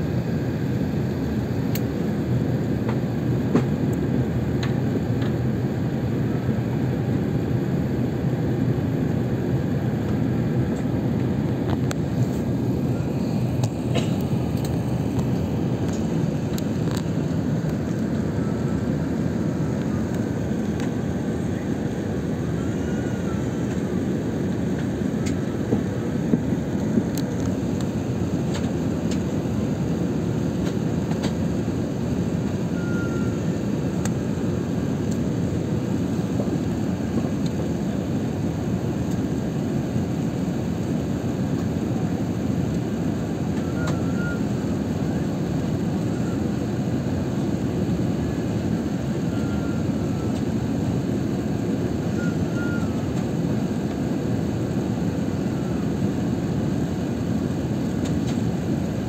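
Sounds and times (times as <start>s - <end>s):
jet airliner cabin noise: 0.0s - 59.0s.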